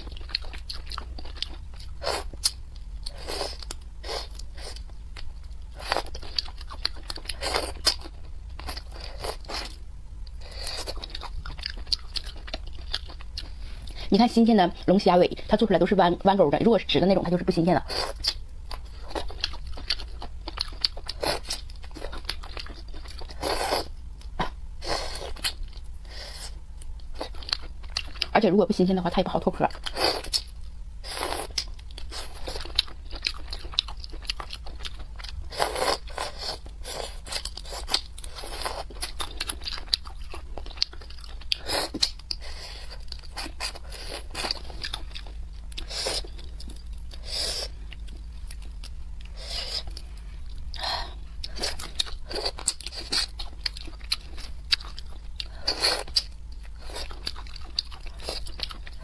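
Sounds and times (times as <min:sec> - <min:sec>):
crunchy chewing: 0:00.0 - 0:14.0, 0:17.9 - 0:28.3, 0:29.8 - 0:59.0
steady low hum: 0:00.0 - 0:59.0.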